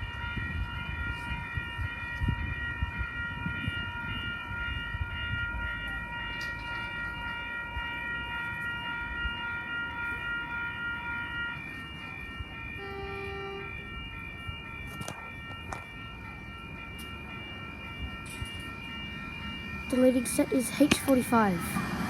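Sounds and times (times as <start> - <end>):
electric train rumble: 0.0 - 22.0
high train whine: 0.0 - 22.0.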